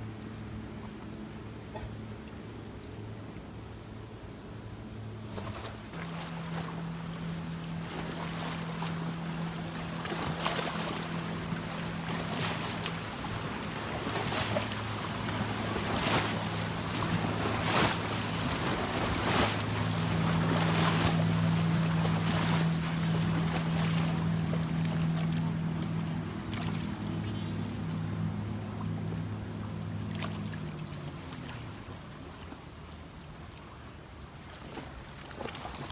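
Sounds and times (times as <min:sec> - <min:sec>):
low motor hum: 0:00.0 - 0:34.2.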